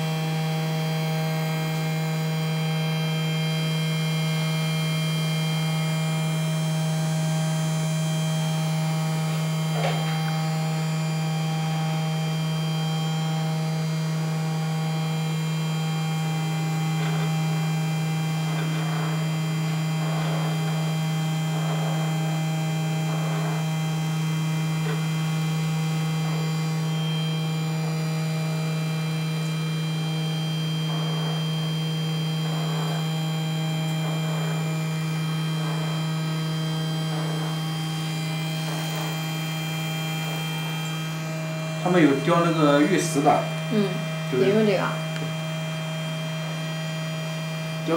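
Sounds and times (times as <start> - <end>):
high-pitched motor whines: 0.0 - 47.9
milling machine motor hum: 0.0 - 47.9.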